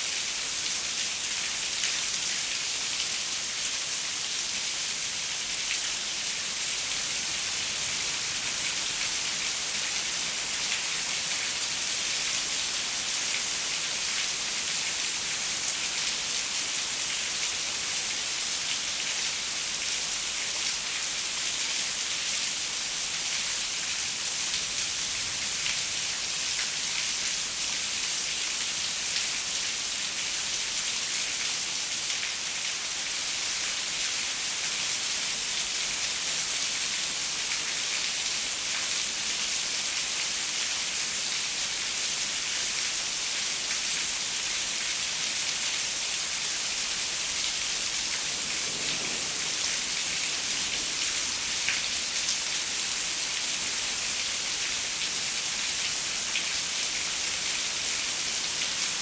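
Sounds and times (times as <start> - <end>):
rain falling on a window: 0.2 - 59.0.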